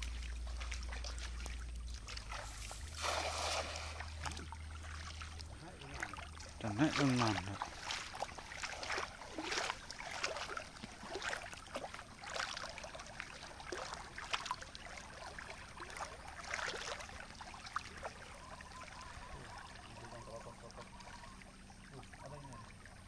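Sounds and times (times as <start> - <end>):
flowing water: 0.0 - 23.0
water splashing and sloshing: 0.0 - 23.0.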